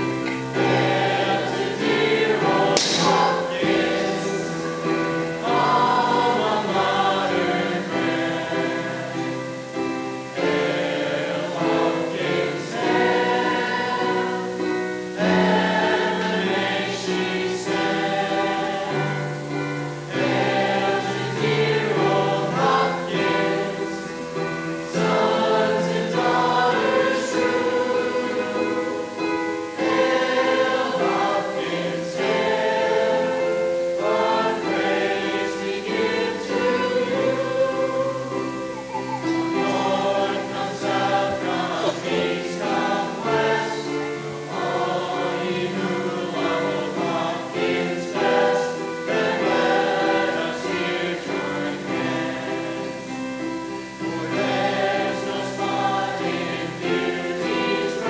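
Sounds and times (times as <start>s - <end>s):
teenage chorus singing: 0.0s - 58.0s.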